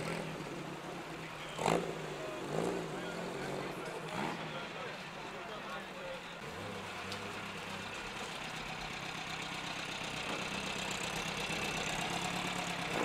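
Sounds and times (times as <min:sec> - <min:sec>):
car engine idling: 0:00.2 - 0:13.0.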